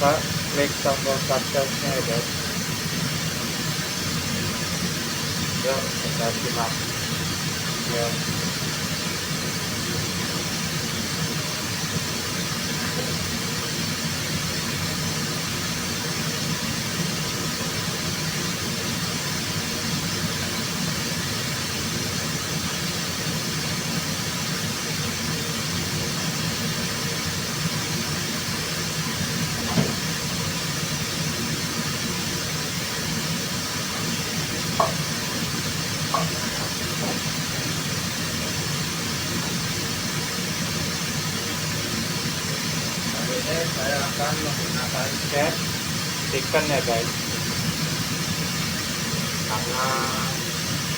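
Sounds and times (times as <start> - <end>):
machine hum with hiss: 0.0 - 50.9.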